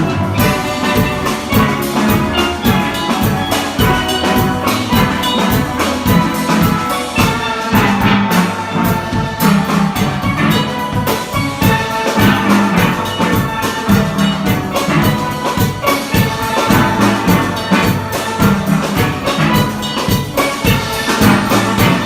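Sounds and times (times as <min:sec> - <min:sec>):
drum kit beat: 0:00.0 - 0:22.0
steel pan ensemble playing: 0:00.0 - 0:22.0.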